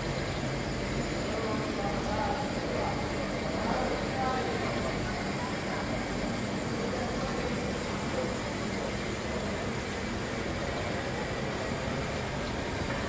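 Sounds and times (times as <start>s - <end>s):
machine humming and hissing: 0.0s - 13.0s.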